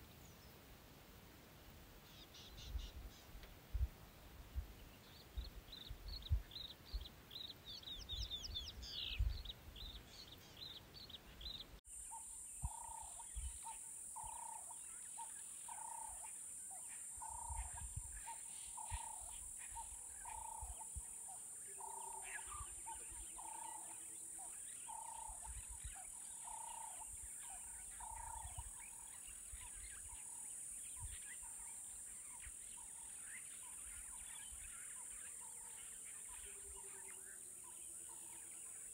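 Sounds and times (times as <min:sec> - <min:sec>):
birds chirping: 0:02.0 - 0:38.9.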